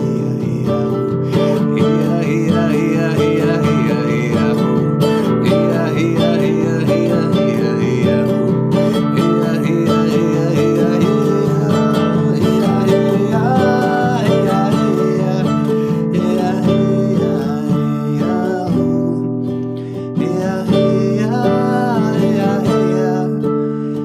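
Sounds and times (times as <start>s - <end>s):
acoustic guitar strumming: 0.0s - 24.0s
person singing: 0.0s - 24.0s.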